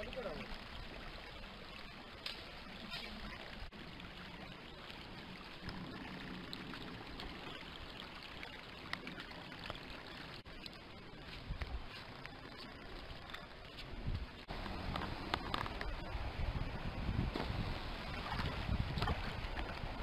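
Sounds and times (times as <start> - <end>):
stream water trickling: 0.0 - 20.0.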